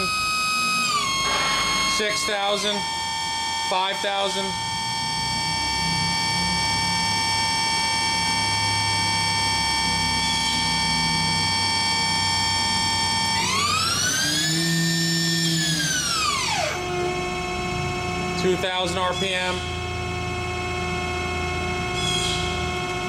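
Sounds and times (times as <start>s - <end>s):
machine spindle whining: 0.0s - 23.0s.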